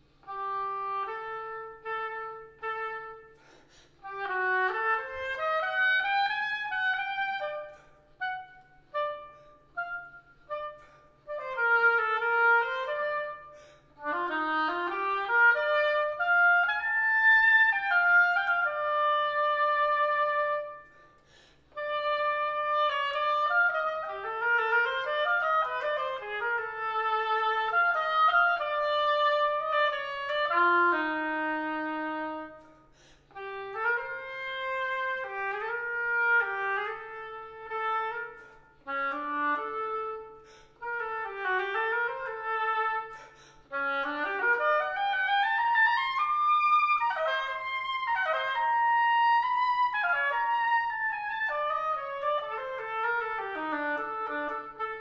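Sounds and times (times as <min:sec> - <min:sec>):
solo oboe melody: 0:00.0 - 0:55.0.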